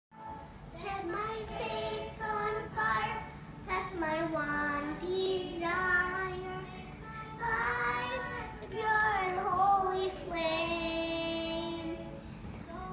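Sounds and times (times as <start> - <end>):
girl singing: 0.7 - 12.9.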